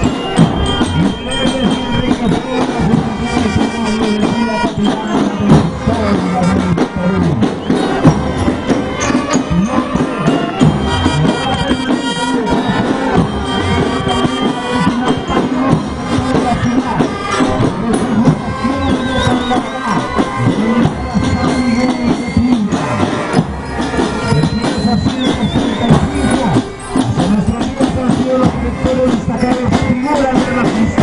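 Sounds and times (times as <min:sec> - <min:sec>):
marching band playing: 0:00.0 - 0:31.0.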